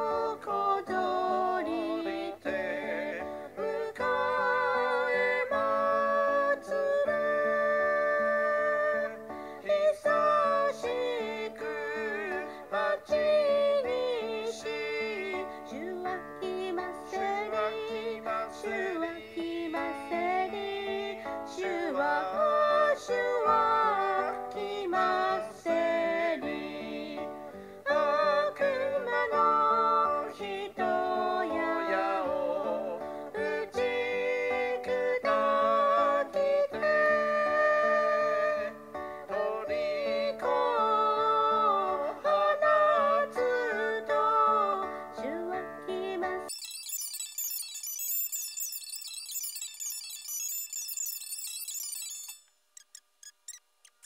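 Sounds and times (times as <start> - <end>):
hymn sung with instruments: 0.0 - 46.5.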